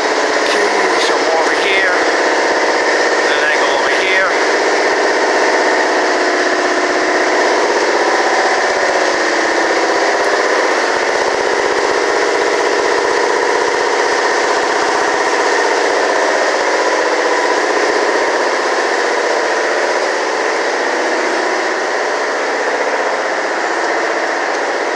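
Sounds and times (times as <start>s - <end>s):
machine droning: 0.0s - 24.9s.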